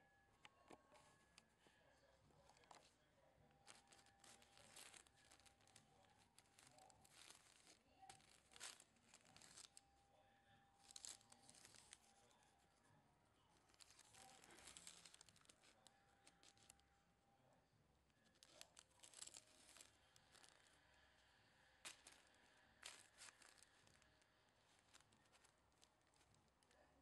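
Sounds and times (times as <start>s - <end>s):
wrapping paper rustling and crinkling: 0.5s - 10.0s, 10.7s - 12.8s, 13.6s - 16.9s, 18.1s - 27.0s.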